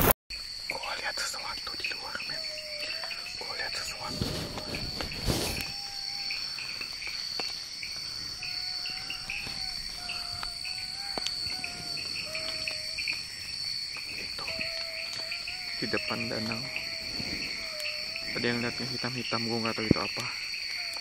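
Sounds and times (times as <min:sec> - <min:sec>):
crickets chirping: 0:00.3 - 0:21.0
high-pitched insect drone: 0:00.4 - 0:21.0.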